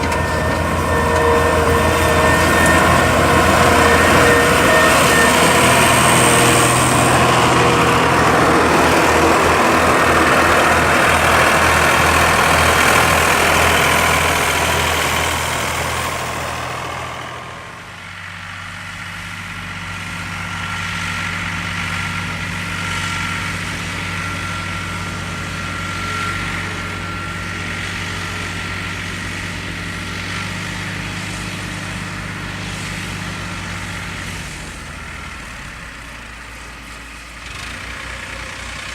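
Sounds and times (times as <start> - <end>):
tractor engine humming: 0.0 - 38.9.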